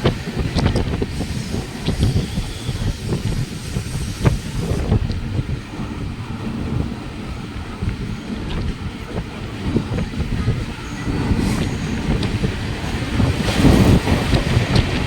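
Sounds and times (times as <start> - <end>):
train clanks and knocks: 0.0 - 15.0
train wheels rumbling on track: 0.0 - 15.0.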